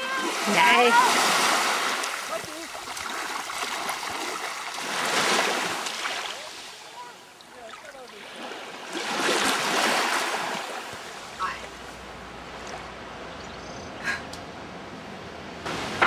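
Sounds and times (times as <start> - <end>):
small waves washing ashore: 0.0 - 13.4, 15.6 - 16.0.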